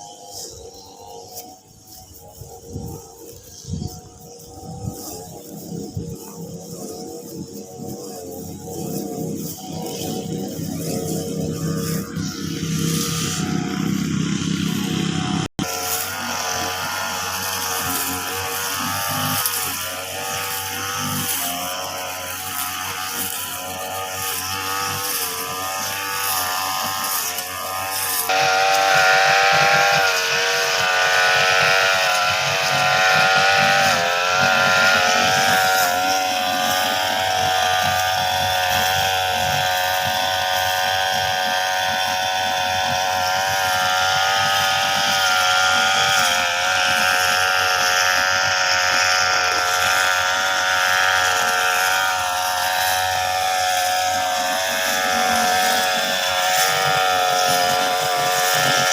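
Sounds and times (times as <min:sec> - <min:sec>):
brush cutter engine cutting grass: 0:00.0 - 0:58.9.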